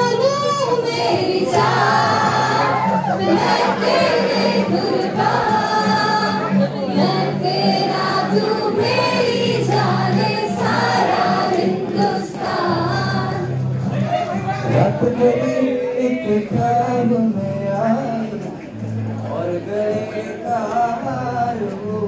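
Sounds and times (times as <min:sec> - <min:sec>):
voices singing together: 0:00.0 - 0:14.0, 0:14.7 - 0:18.5, 0:19.3 - 0:22.0.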